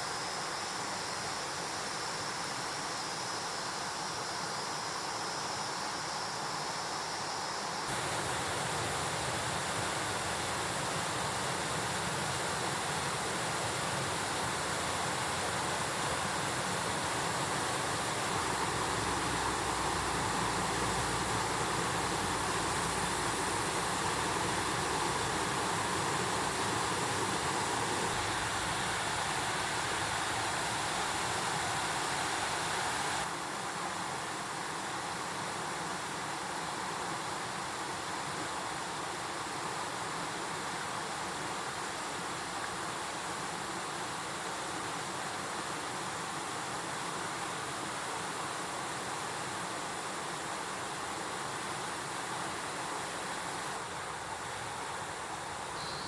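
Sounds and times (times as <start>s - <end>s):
stream rushing over rocks: 7.9s - 55.8s.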